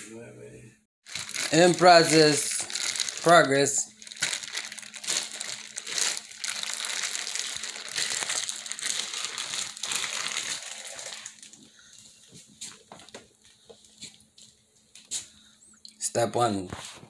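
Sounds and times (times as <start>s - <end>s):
plastic wrapping rustling: 1.0s - 15.2s.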